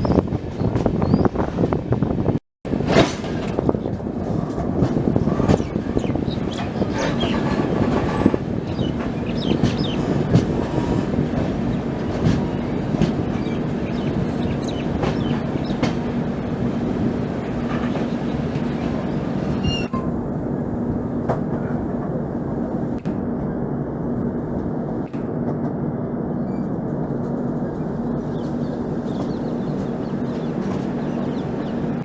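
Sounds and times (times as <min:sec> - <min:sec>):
train rumble on rails: 0:00.0 - 0:32.0.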